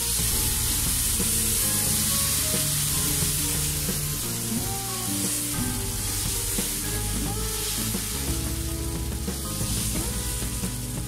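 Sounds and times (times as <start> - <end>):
background music low notes: 0.0 - 11.0
batter sizzling in pan: 0.0 - 11.0.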